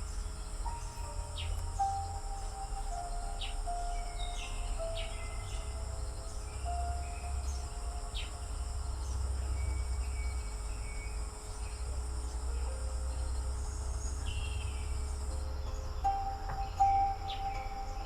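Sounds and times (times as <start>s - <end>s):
insects shrilling: 0.0s - 18.0s
low rumble: 0.0s - 18.0s.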